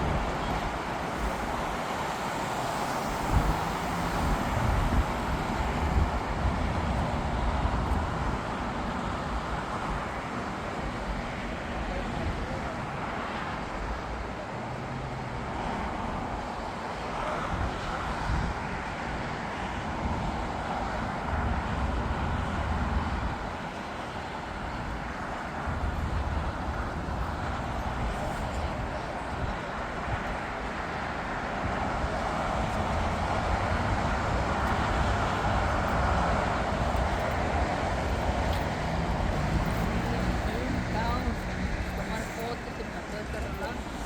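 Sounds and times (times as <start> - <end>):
jet airliner engine rumble: 0.0 - 14.6, 19.8 - 44.0.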